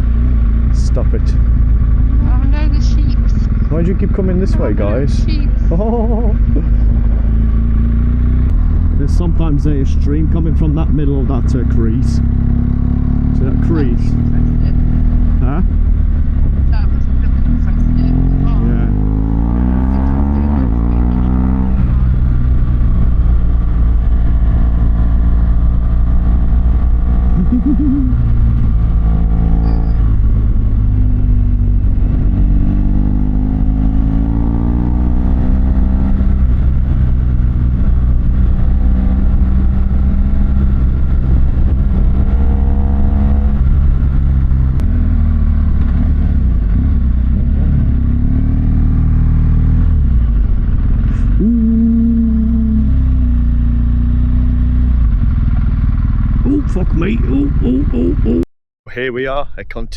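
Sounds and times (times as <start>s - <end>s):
motorcycle engine accelerating: 0.0s - 58.4s.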